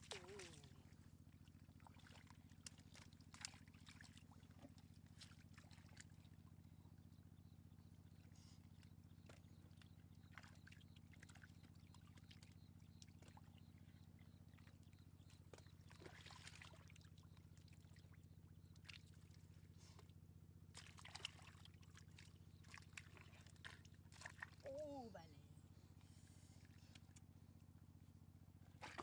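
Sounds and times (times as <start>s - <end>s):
water splashing and trickling: 0.0s - 7.2s, 7.9s - 25.3s, 28.7s - 29.0s
steady low hum: 0.0s - 29.0s.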